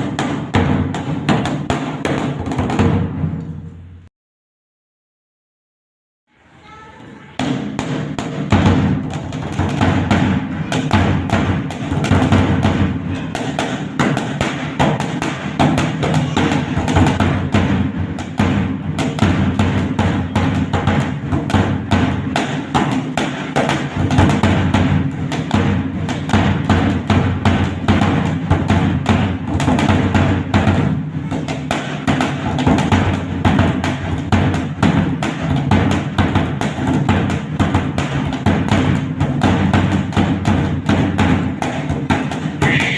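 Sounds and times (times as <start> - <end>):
large drum played with sticks: 7.4 - 42.9.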